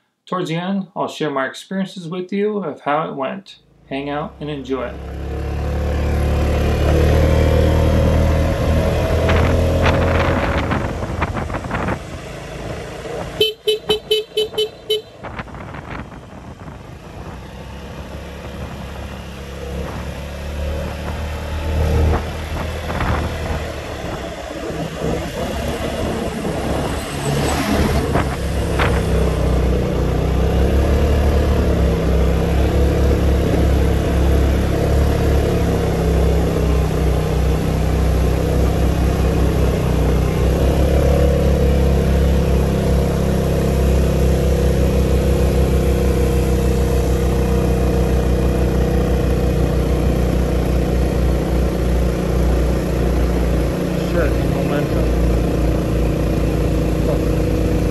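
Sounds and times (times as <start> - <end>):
motorbike engine hum: 3.7 - 57.9.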